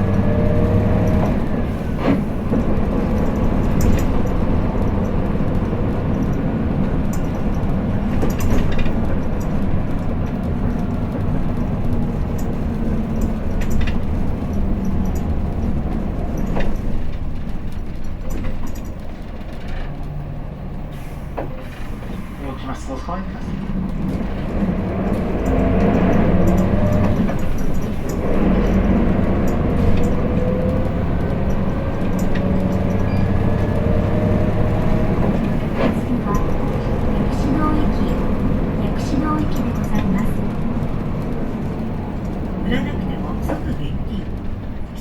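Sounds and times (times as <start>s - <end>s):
rattles and clicks: 0.0s - 20.8s, 23.4s - 45.0s
bus engine drone: 0.0s - 45.0s.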